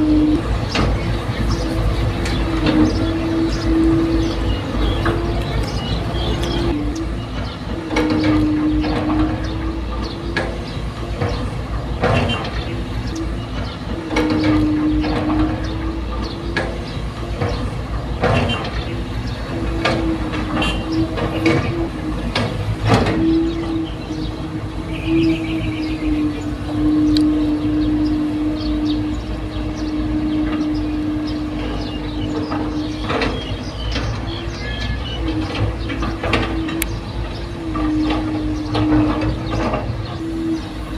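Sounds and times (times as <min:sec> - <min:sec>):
sharp knocks and clanks: 0:00.0 - 0:26.8, 0:29.2 - 0:40.2
excavator diesel engine whining: 0:00.0 - 0:40.9.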